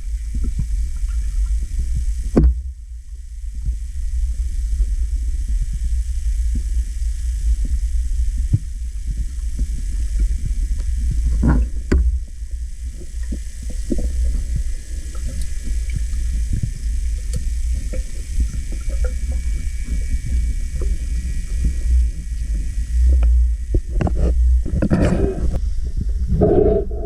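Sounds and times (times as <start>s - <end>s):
muffled underwater rumble: 0.0s - 27.0s.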